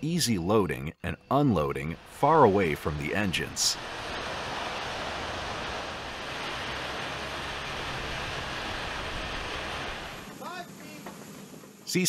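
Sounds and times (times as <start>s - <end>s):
turbine engines rushing: 1.6s - 11.3s.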